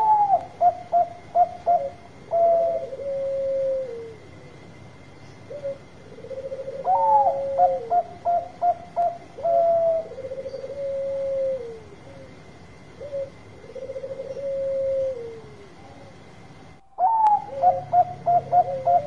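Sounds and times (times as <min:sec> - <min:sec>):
dove cooing: 0:00.0 - 0:04.6, 0:05.4 - 0:19.0.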